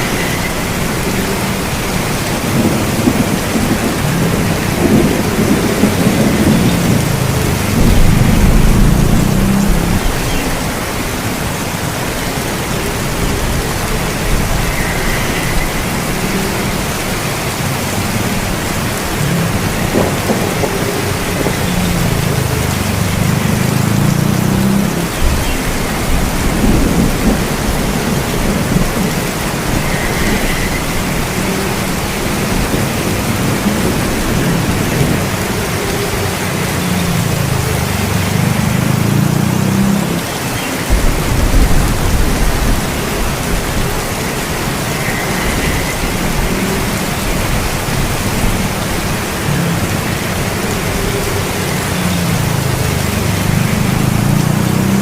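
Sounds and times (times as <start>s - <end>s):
heavy rainfall: 0.0s - 55.0s
thunder rumbling: 0.0s - 55.0s.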